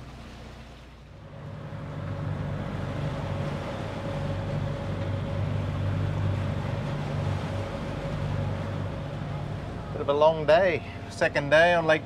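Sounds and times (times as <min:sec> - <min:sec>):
boat engine droning: 0:00.0 - 0:12.0
water washing along hull: 0:00.0 - 0:12.0.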